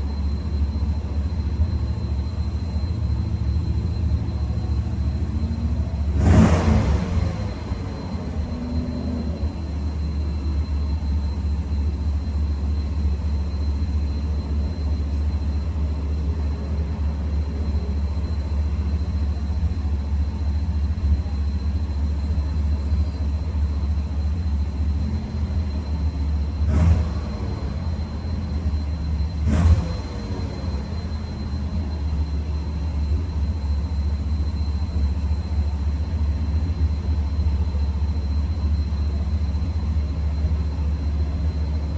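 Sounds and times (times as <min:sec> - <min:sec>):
engine throttle blips: 0:00.0 - 0:41.9
truck engine idling: 0:00.0 - 0:41.9.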